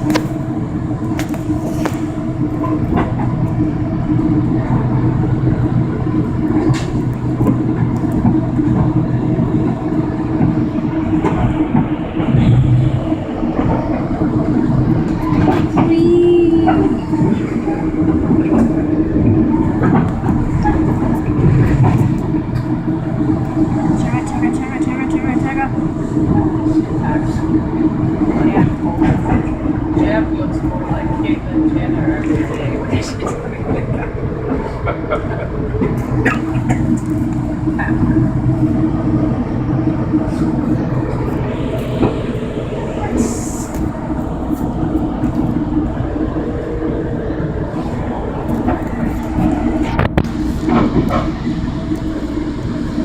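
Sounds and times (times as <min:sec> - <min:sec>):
train interior rumble and hum: 0:00.0 - 0:53.0.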